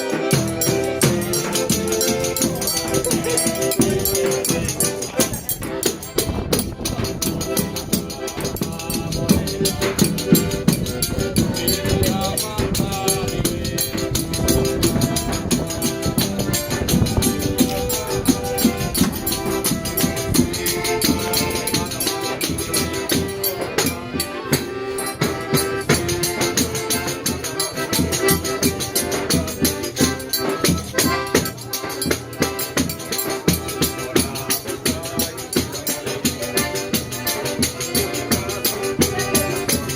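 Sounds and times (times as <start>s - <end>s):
band playing dance music: 0.0s - 39.9s
rattling shaken percussion: 0.0s - 39.9s
drum beat: 0.3s - 36.4s.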